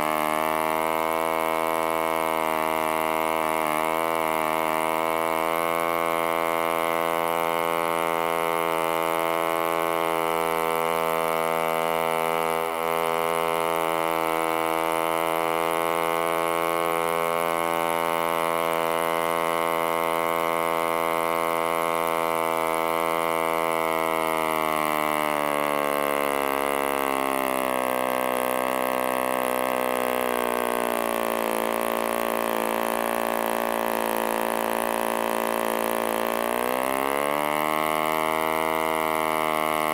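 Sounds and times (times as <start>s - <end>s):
model aero engine buzzing: 0.0s - 39.9s.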